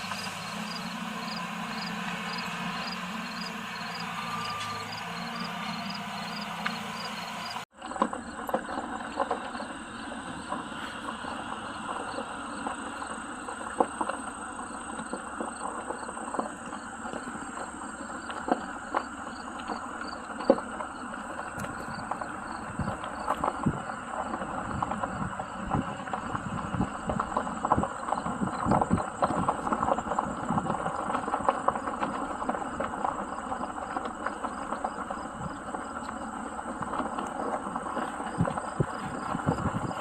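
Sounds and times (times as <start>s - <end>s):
insects chirping: 0.0s - 40.0s
steady outdoor ambience: 0.0s - 40.0s.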